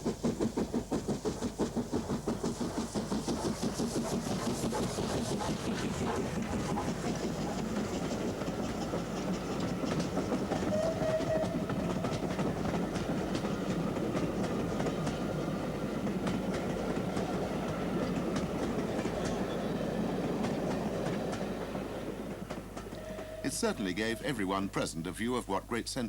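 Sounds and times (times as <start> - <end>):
train wheels clicking over rail joints: 0.0 - 24.6
train rumble: 0.0 - 26.0.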